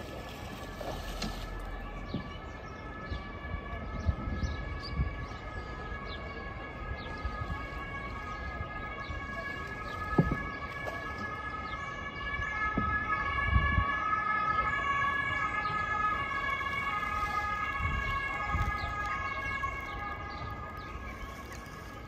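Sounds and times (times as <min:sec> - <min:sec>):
two-tone emergency siren: 0:00.0 - 0:22.0.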